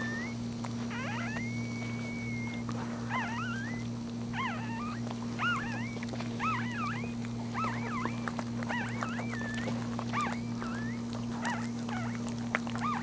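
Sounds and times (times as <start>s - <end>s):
newborn puppies squeaking: 0.0s - 13.0s
steady low hum: 0.0s - 13.0s.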